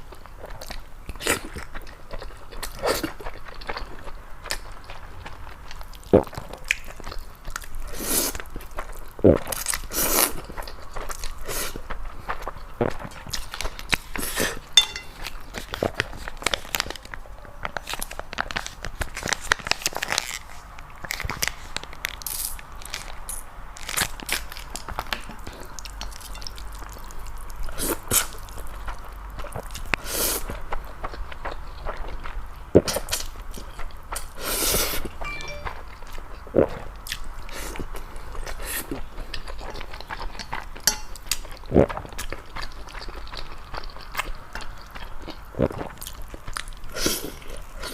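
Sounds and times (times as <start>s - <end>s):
person chewing noodles: 0.0s - 17.1s, 23.9s - 35.6s, 36.4s - 47.9s.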